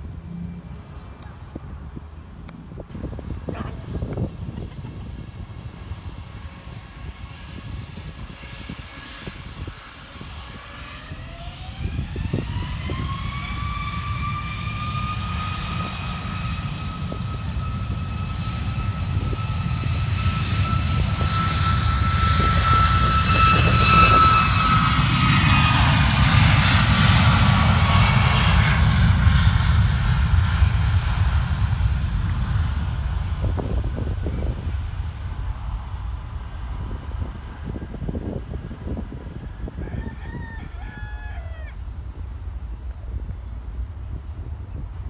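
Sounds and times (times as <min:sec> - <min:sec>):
jet engine roar: 0:00.0 - 0:45.0
jet engine whine: 0:00.0 - 0:45.0.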